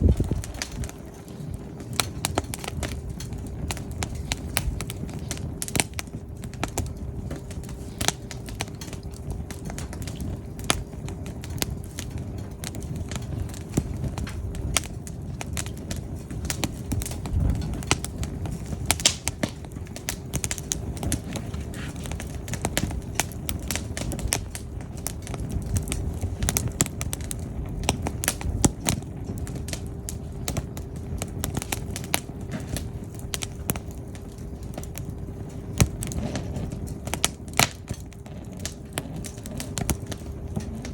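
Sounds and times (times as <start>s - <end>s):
firewood crackling and popping: 0.0s - 40.9s
flames rumbling: 0.0s - 40.9s.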